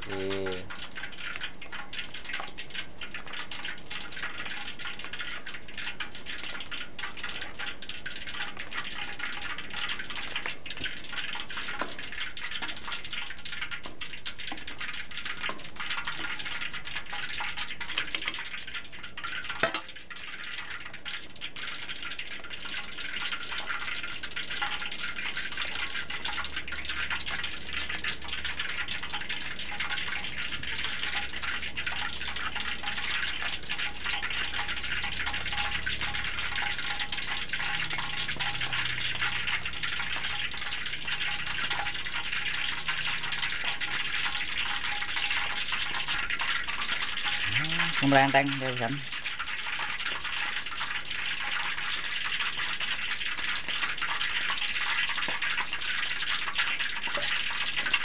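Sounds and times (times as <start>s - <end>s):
soup bubbling: 0.0s - 58.0s.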